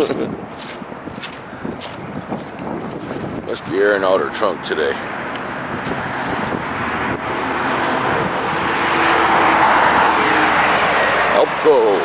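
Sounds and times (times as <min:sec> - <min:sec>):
car passing on road: 0:00.8 - 0:12.0.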